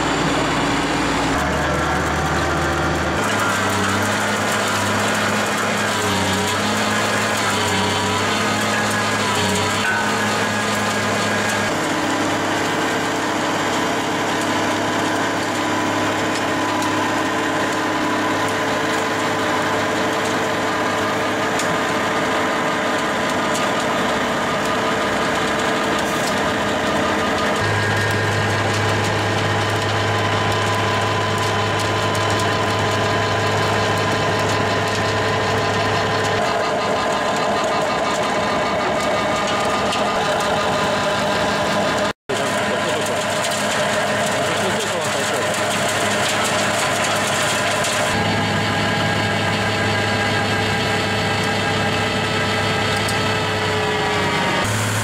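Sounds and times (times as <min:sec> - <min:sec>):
mulcher grinding: 0:00.0 - 0:55.0
tractor engine and rotor hum: 0:00.0 - 0:55.0.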